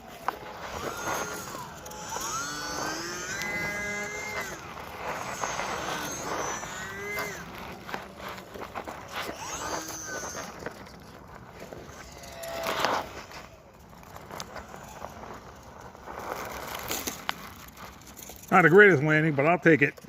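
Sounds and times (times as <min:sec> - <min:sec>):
model plane motor whining: 0:00.0 - 0:18.7.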